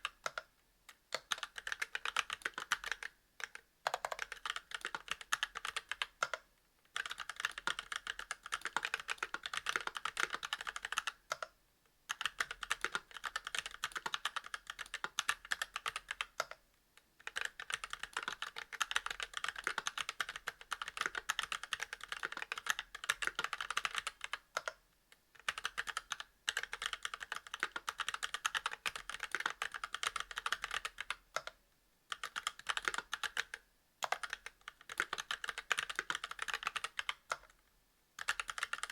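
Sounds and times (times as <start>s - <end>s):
mechanical keyboard typing: 1.1s - 11.5s, 12.1s - 16.6s, 17.2s - 24.8s, 25.4s - 37.6s, 38.2s - 38.9s.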